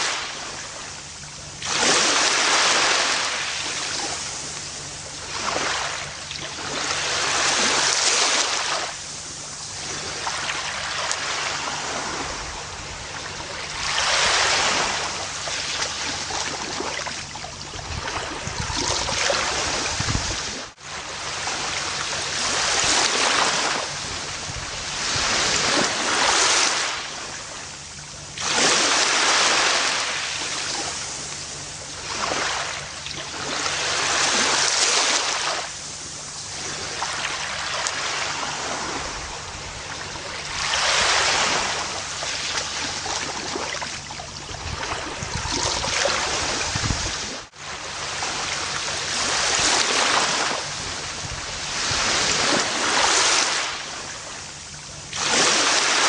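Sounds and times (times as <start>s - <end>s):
gentle waves washing up beach: 0.0s - 56.0s.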